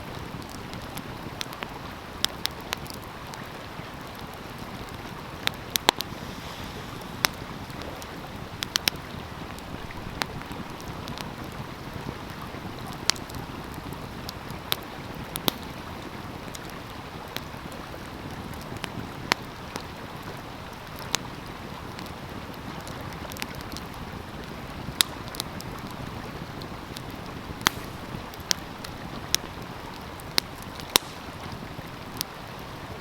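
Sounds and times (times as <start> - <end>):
stream flowing: 0.0 - 33.0
wood fire crackling and popping: 0.0 - 33.0.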